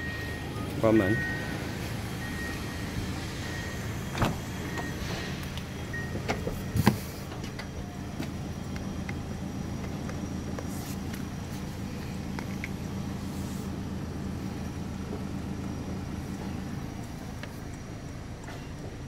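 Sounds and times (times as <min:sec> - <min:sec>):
car humming: 0:00.0 - 0:19.0.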